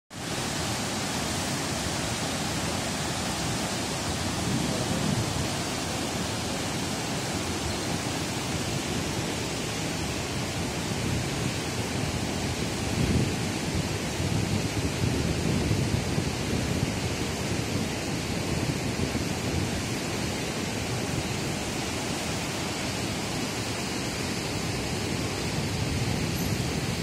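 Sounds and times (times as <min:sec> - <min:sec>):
whitewater rushing: 0:00.1 - 0:27.0.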